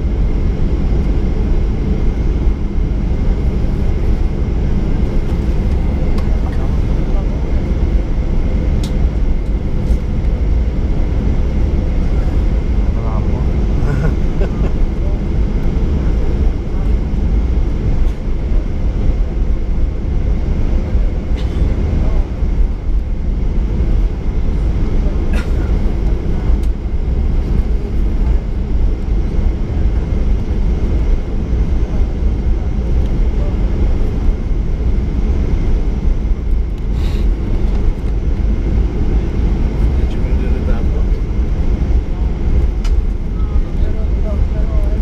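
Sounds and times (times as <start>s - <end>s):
jet engines low rumble and whine: 0.0s - 45.0s.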